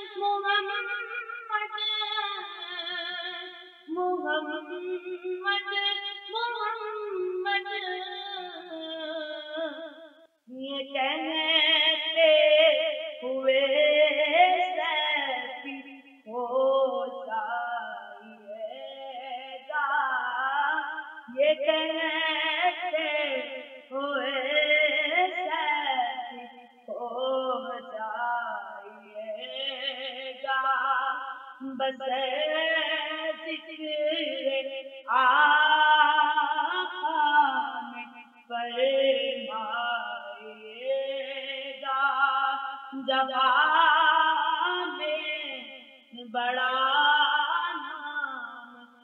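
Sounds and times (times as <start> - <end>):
person singing unaccompanied: 0.0 - 49.0.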